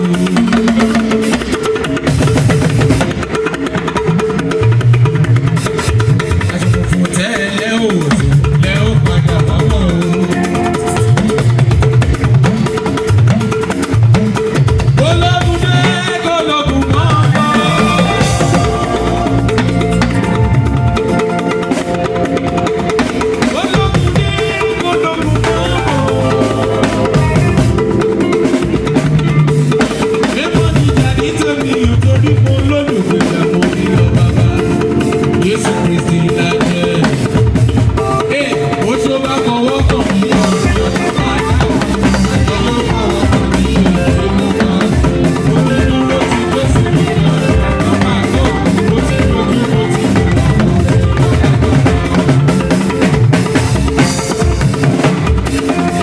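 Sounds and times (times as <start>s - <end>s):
band music: 0.0s - 56.0s
drum kit beat: 0.0s - 56.0s
held keyboard notes: 4.5s - 56.0s.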